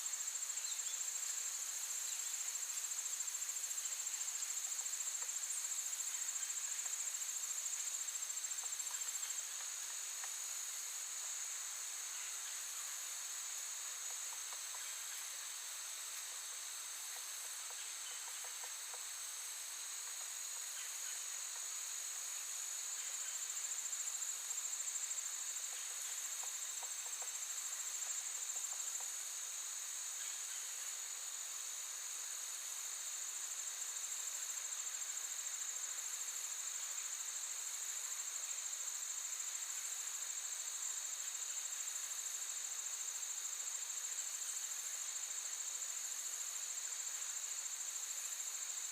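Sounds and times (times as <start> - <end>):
crickets and insects trilling: 0.0 - 48.9.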